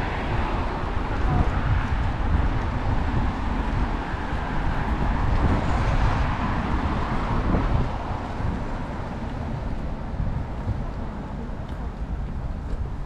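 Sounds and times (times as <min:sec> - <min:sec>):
road traffic: 0:00.0 - 0:13.0
wind on microphone: 0:00.0 - 0:13.0.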